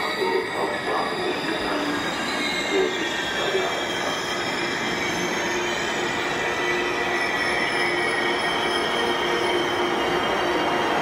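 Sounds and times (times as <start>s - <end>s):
high-pitched squeal: 0.0s - 11.0s.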